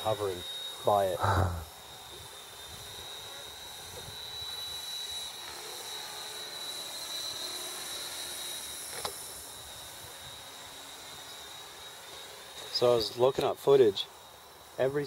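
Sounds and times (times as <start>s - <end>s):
model aircraft motor whine: 0.0s - 15.0s.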